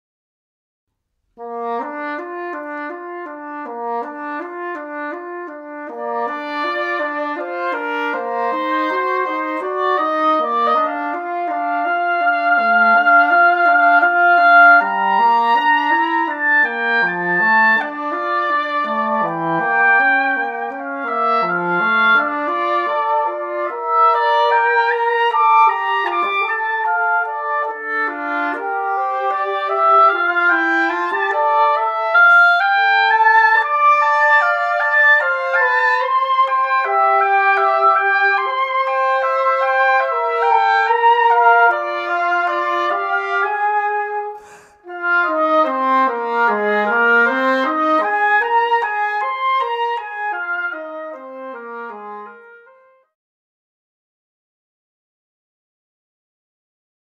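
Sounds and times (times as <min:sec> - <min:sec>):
oboe: 0:01.4 - 0:53.1.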